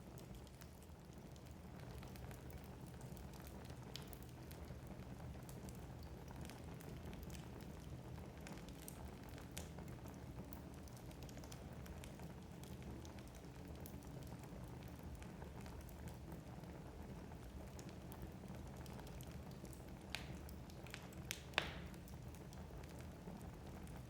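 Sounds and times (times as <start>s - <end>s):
logs crackling and popping: 0.2s - 4.8s, 5.4s - 16.2s, 17.6s - 24.0s.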